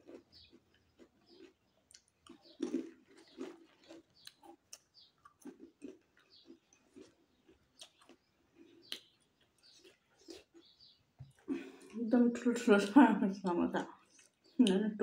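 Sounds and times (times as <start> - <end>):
chewing crunchy snack: 0.0 - 12.0, 13.8 - 14.7.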